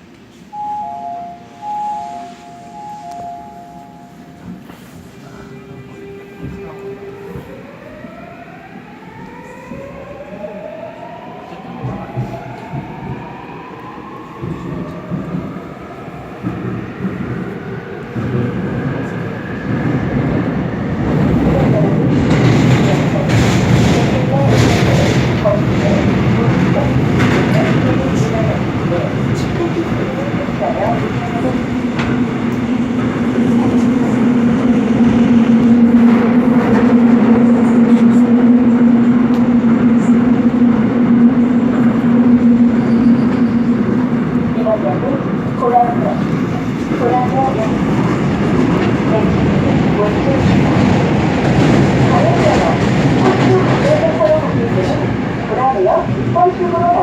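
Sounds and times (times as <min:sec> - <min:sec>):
train wheels rumbling on track: 0:09.1 - 0:57.0.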